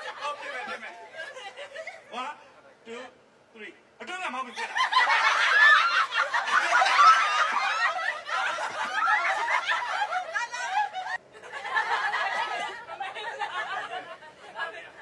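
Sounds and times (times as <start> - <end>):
people laughing together: 0.0 - 2.2, 4.5 - 15.0.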